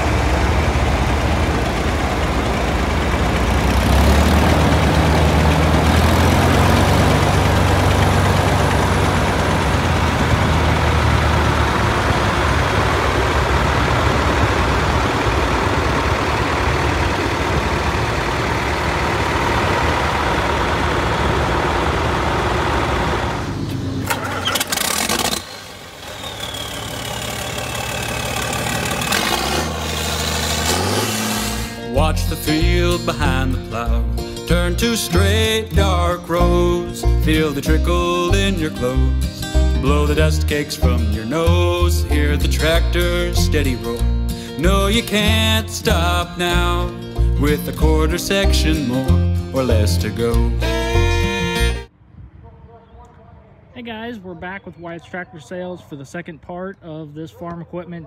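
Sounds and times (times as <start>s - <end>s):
engine rising in pitch: 0.0s - 51.9s
tractor engine running: 0.0s - 52.0s.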